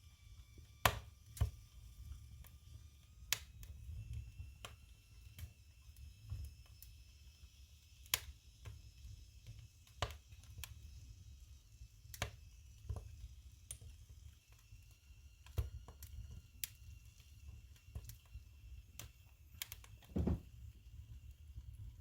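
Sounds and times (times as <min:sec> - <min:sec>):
low rumble of fire: 0:00.0 - 0:22.0
firewood crackling and popping: 0:00.6 - 0:22.0.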